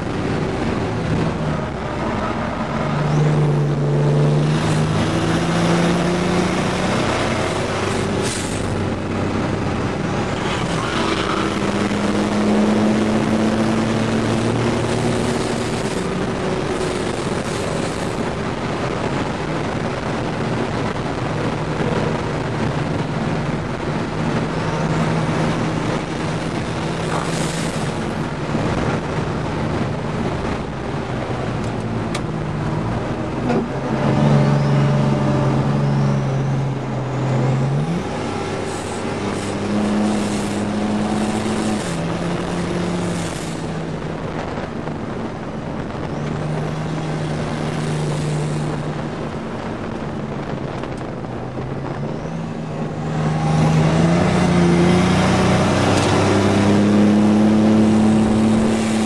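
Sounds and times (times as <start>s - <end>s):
road and wind noise: 0.0s - 59.0s
truck engine at speed: 0.0s - 59.0s.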